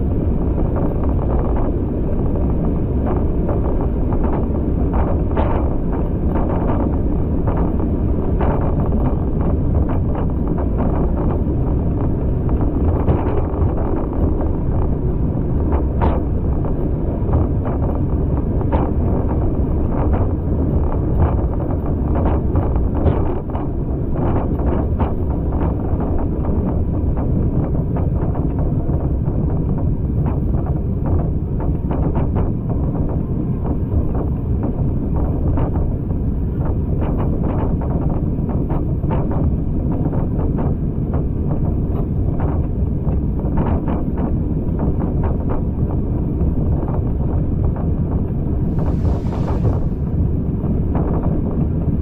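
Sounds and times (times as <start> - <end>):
wheels rumbling on rails: 0.0 - 52.0
wind buffeting microphone: 0.0 - 52.0.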